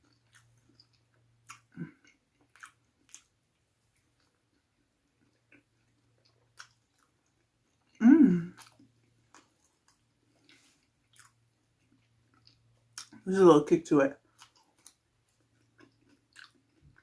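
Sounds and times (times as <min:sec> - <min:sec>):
wet mouth clicks chewing: 0:00.0 - 0:03.3, 0:04.2 - 0:13.2, 0:14.3 - 0:17.0.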